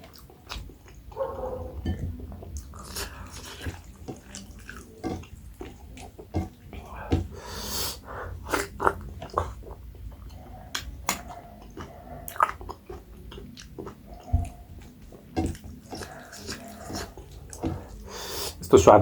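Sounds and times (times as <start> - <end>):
person chewing and lip-smacking: 0.0 - 18.6.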